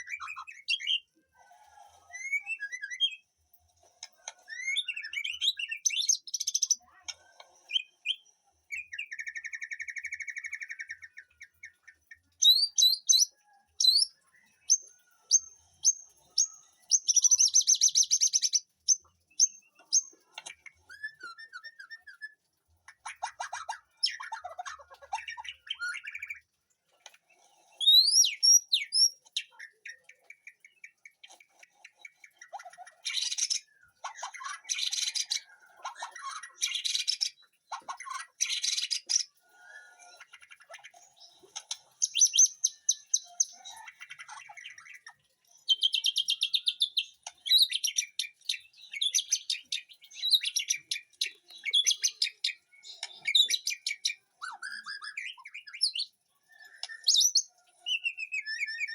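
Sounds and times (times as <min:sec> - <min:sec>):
birds singing and calling: 0:00.0 - 0:01.2, 0:01.9 - 0:03.2, 0:03.8 - 0:58.9.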